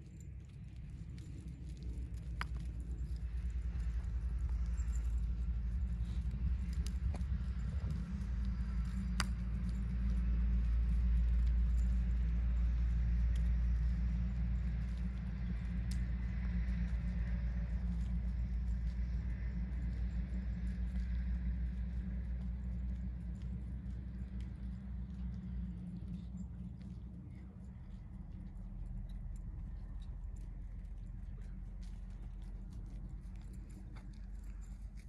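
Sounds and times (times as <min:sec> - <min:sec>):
hoofbeats on sand: 0:00.0 - 0:35.0
wind rumble on microphone: 0:00.0 - 0:35.0.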